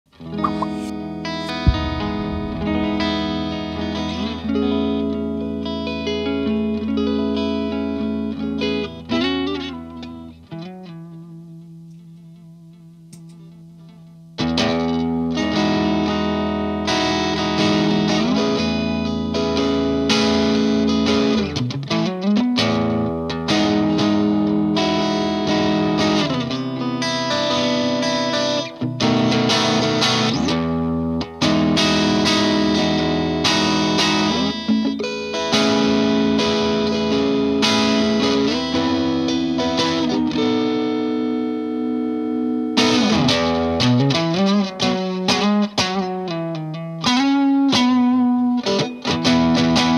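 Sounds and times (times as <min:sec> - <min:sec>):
overdriven electric guitar: 0:00.1 - 0:49.9.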